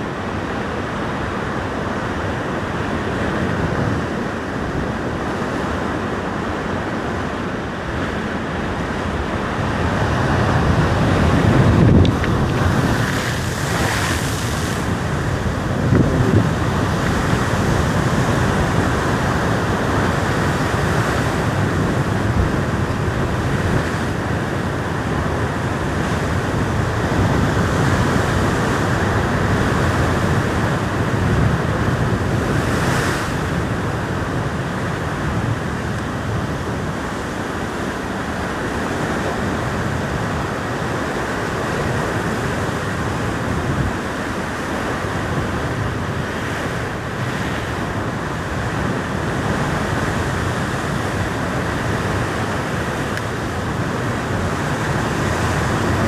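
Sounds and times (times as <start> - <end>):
ocean surf breaking on rocks: 0.0 - 56.0
wind buffeting microphone: 0.0 - 56.0.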